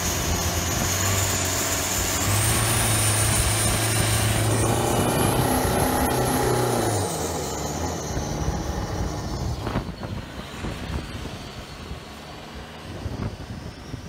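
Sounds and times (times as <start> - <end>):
diesel boat engine rumble: 0.0 - 14.0
turbo whine: 0.0 - 14.0.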